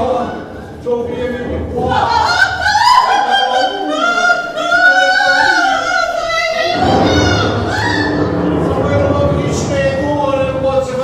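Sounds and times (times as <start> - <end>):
operatic singing: 0.0 - 11.0.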